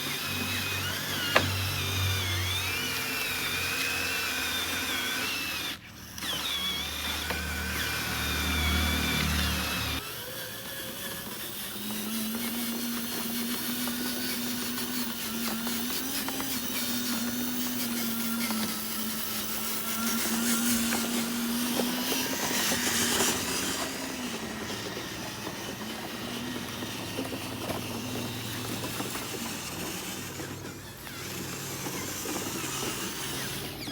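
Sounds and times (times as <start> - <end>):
small electric motors whining: 0.0 - 33.9.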